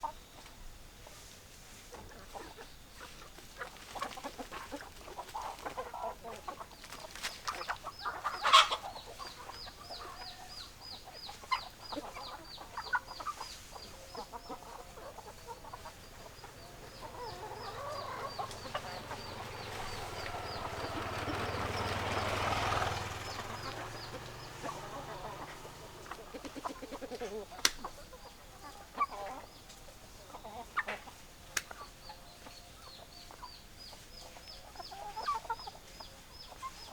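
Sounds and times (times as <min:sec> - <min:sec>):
hens clucking: 0:02.0 - 0:31.9.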